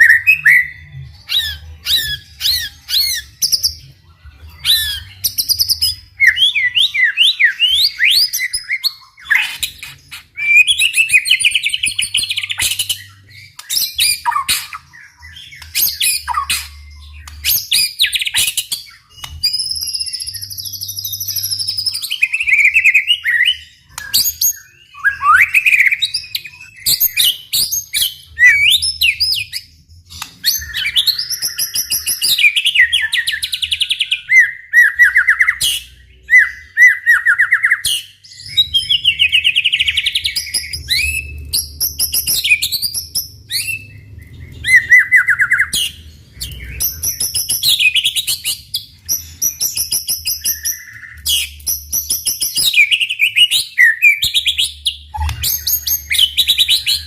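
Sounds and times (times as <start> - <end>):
bird singing whistles and trills: 0.0 - 57.0.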